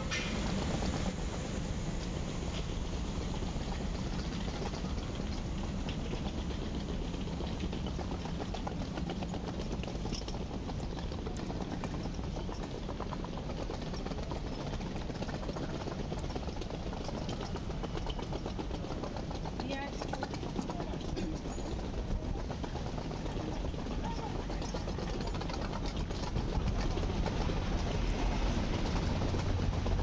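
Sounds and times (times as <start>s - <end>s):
low street rumble: 0.0s - 30.0s.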